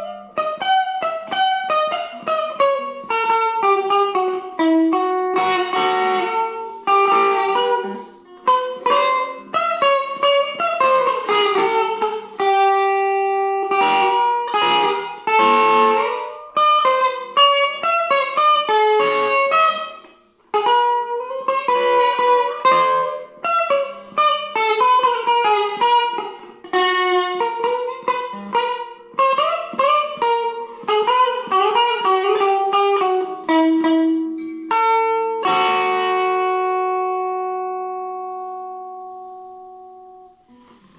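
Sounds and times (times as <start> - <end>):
clean electric guitar melody: 0.0 - 40.9.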